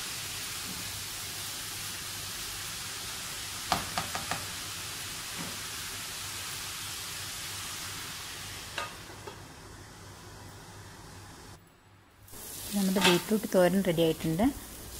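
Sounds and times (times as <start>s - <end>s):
beetroot sizzling in a pan: 0.0s - 11.4s, 12.3s - 14.9s.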